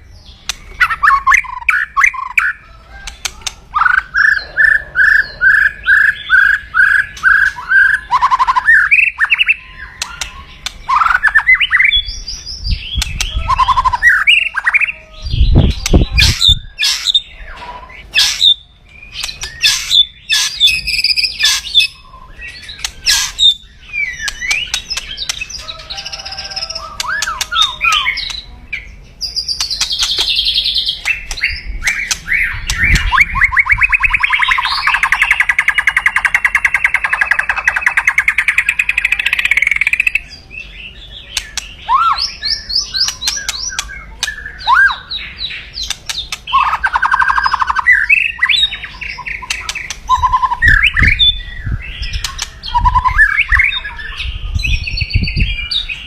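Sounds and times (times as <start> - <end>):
bird calling with chirps and rattles: 0.0 - 56.0.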